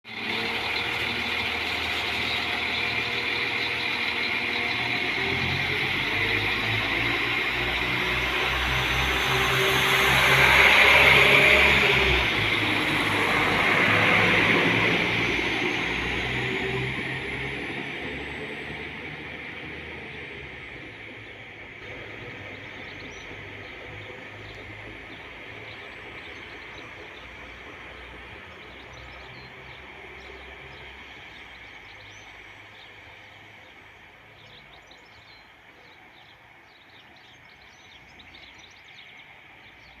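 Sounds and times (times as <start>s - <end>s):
diesel train pulling away: 0.0s - 40.0s
birds chirping: 0.1s - 40.0s.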